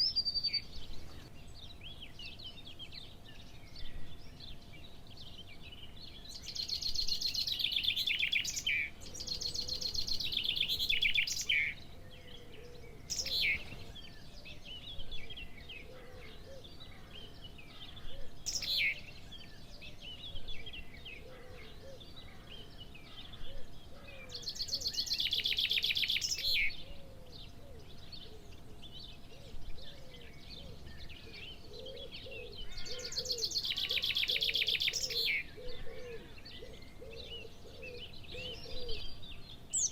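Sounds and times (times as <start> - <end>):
birds singing trilled phrases: 0.0 - 39.9
downward-sweeping bird calls: 6.3 - 39.9.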